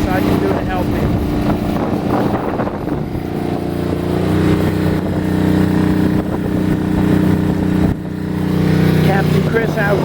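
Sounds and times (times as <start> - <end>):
generator running: 0.0 - 10.0.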